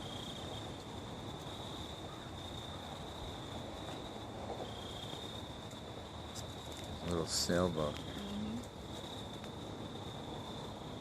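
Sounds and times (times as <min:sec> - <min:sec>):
insects trilling: 0:00.0 - 0:11.0
outdoor background noise: 0:00.0 - 0:11.0.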